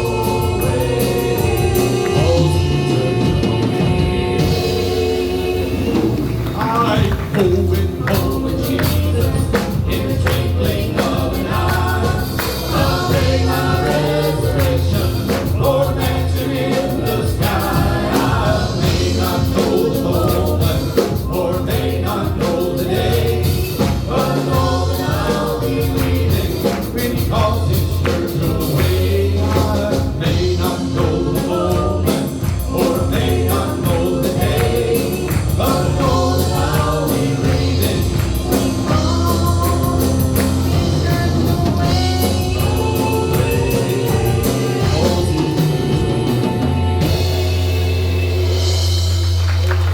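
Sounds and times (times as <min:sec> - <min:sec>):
gospel group singing with band: 0:00.0 - 0:49.9.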